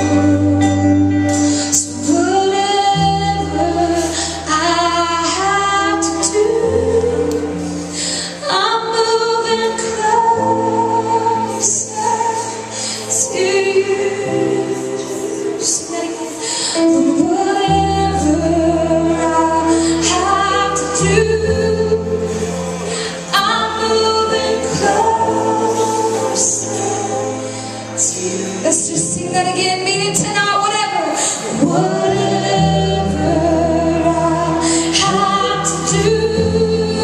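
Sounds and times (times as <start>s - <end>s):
band sustained chords: 0.0s - 37.0s
woman singing worship music: 0.0s - 37.0s.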